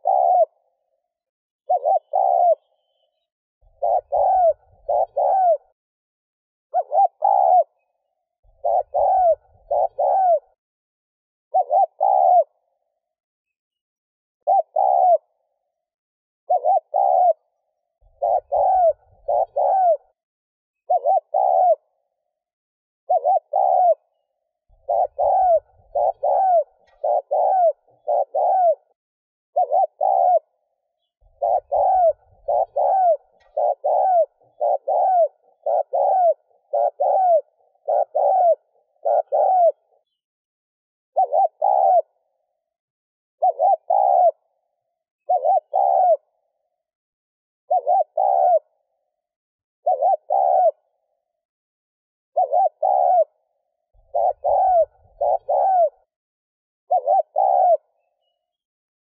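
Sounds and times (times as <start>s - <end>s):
dove cooing: 0.0s - 5.8s, 6.7s - 10.6s, 11.5s - 13.1s, 14.4s - 15.8s, 16.5s - 20.2s, 20.8s - 22.4s, 23.1s - 40.2s, 41.2s - 42.7s, 43.4s - 46.8s, 47.7s - 49.2s, 49.8s - 51.3s, 52.3s - 56.2s, 56.9s - 58.6s.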